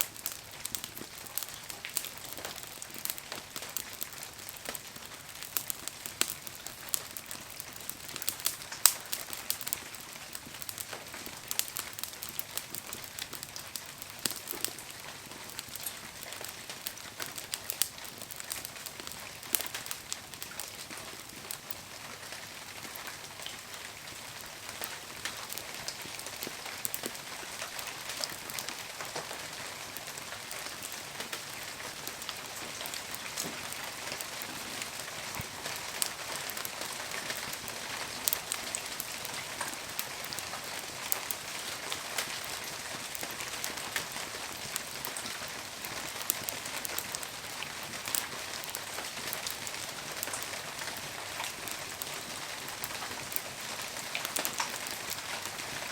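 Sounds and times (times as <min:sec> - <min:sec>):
bonfire hissing: 0:00.0 - 0:55.9
firewood crackling and popping: 0:00.0 - 0:55.9.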